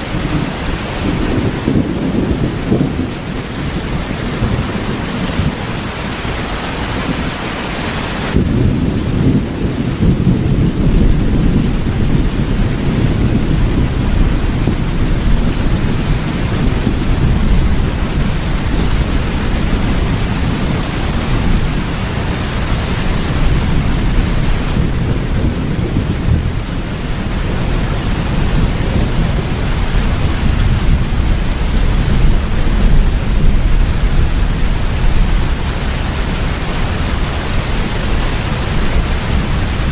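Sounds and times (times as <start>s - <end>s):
low rumble of thunder: 0.0s - 7.5s, 8.1s - 39.9s
steady rain: 0.0s - 39.9s.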